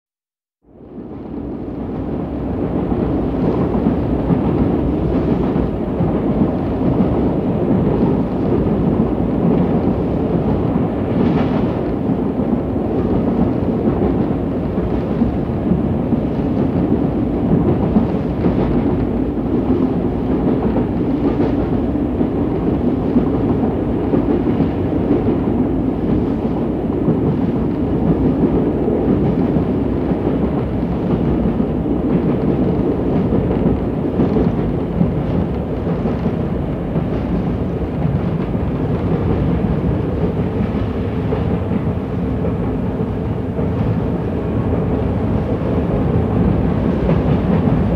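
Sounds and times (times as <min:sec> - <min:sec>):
diesel train rumble: 0:00.7 - 0:47.9.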